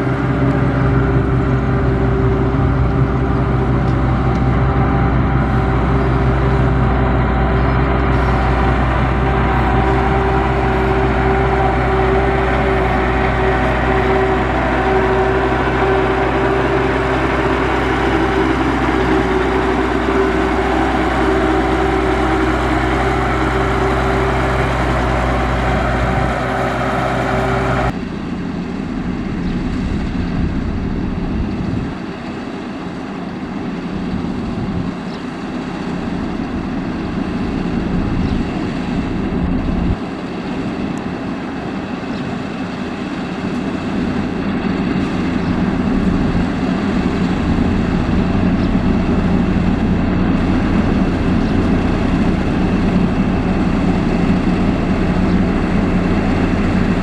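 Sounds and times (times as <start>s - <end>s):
heavy machinery diesel engines: 0.0s - 57.0s
machine running: 0.0s - 57.0s.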